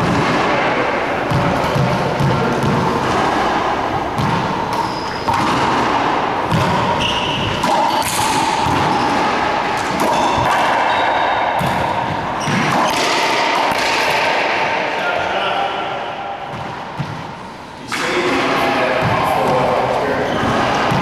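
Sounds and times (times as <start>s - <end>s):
racquetball hits echoing: 0.0s - 21.0s.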